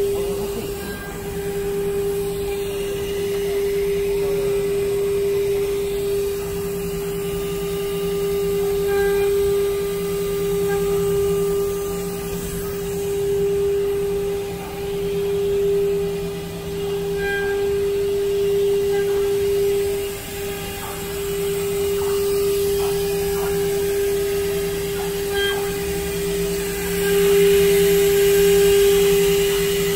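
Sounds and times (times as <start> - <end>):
machine noise: 0.0 - 29.9
router spindle whine: 0.0 - 29.9.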